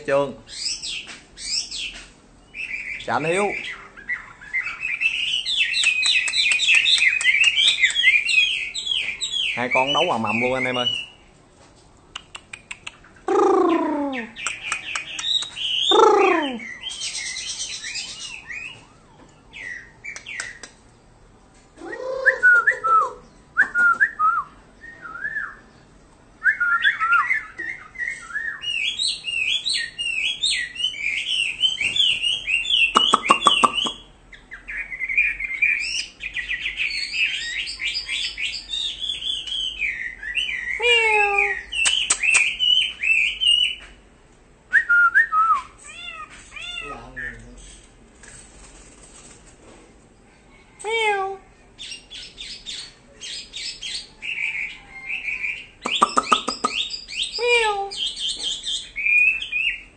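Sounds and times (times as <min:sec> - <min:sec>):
bird singing whistled phrases: 0:00.5 - 0:11.2, 0:12.8 - 0:20.7, 0:21.8 - 0:25.7, 0:26.4 - 0:43.8, 0:44.7 - 0:45.8, 0:46.8 - 0:47.7, 0:51.8 - 0:59.9.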